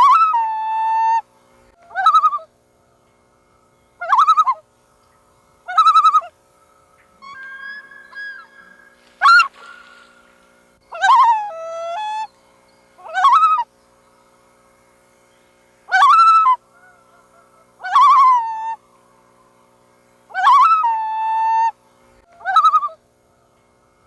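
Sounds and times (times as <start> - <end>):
loons calling: 0.0 - 14.6, 15.2 - 23.9.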